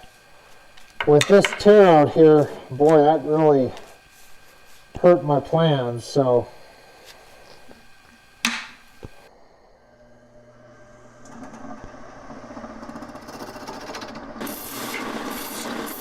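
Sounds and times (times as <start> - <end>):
wood lathe humming: 0.0 - 16.0.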